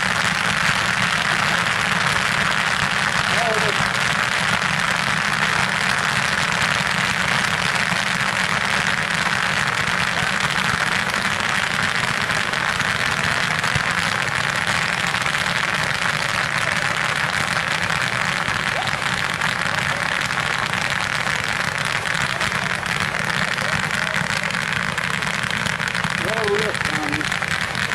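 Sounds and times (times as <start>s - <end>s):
firework fountains crackling: 0.0s - 27.9s.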